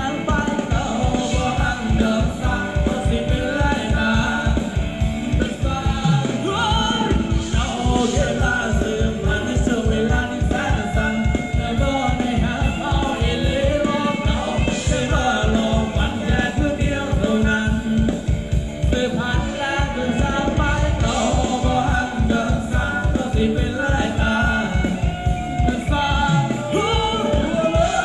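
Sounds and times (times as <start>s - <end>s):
band playing dance music: 0.0s - 28.0s
person singing: 0.0s - 28.0s
steady drum beat: 0.0s - 28.0s.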